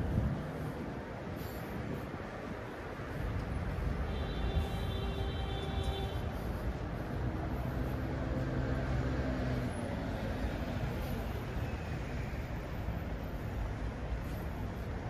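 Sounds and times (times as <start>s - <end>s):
road traffic: 0.0s - 15.0s
vehicle engine hum: 0.0s - 15.0s.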